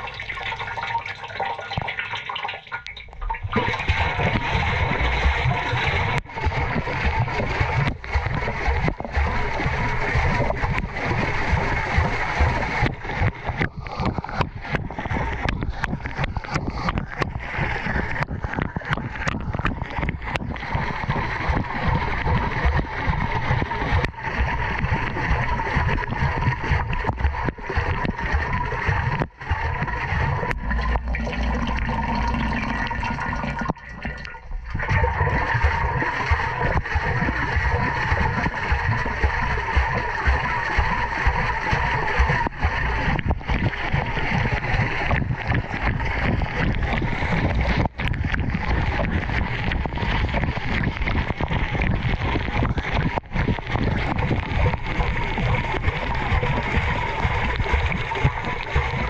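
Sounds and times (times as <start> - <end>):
water sloshing in washing machine drum: 0.0 - 59.0.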